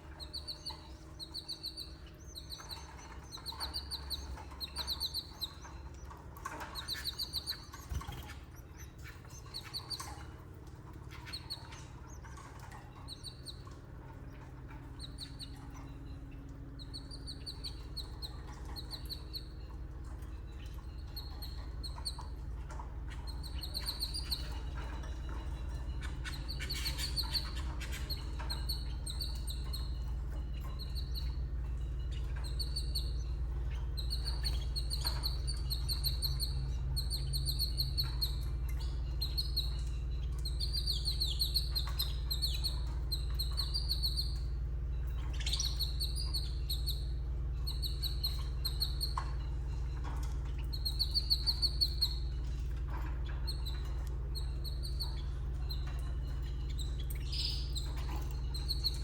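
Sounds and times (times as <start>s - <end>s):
canaries chirping: 0.0s - 59.0s
steady low hum: 0.0s - 59.0s.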